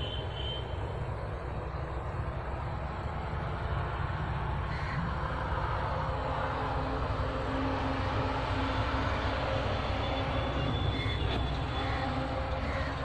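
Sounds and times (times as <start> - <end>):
low engine-like drone: 0.0 - 13.0.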